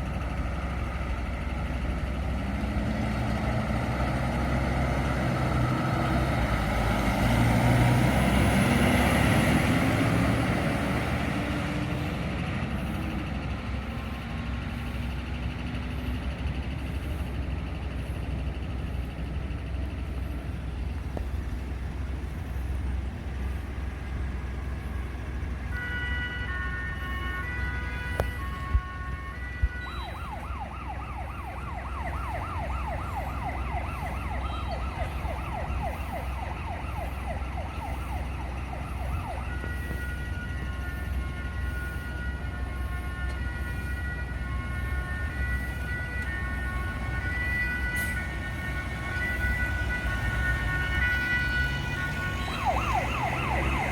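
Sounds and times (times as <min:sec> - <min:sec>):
emergency vehicle siren: 0:00.0 - 0:53.9
low vehicle rumble: 0:00.0 - 0:53.9.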